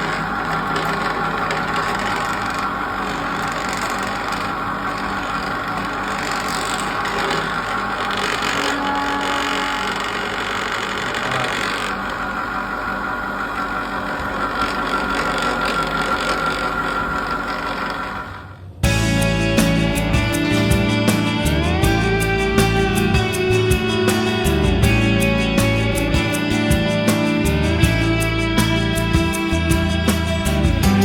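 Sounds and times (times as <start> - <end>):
factory machinery running: 0.0 - 31.0.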